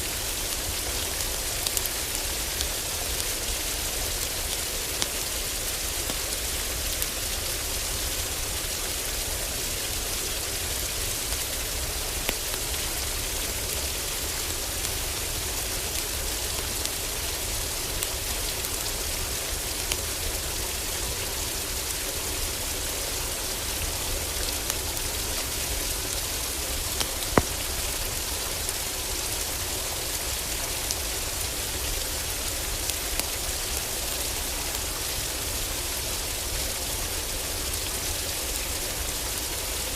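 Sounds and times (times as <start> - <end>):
heavy rain on a roof: 0.0 - 39.9
wood fire crackling: 0.2 - 8.0, 9.7 - 35.5.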